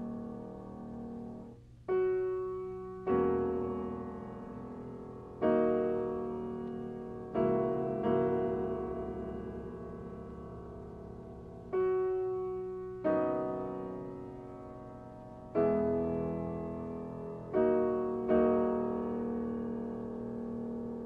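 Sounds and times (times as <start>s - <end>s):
slow solo piano chords: 0.0s - 21.0s.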